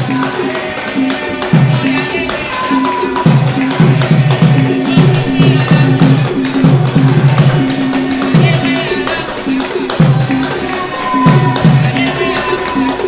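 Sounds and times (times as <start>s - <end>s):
hand drums playing: 0.0s - 13.0s.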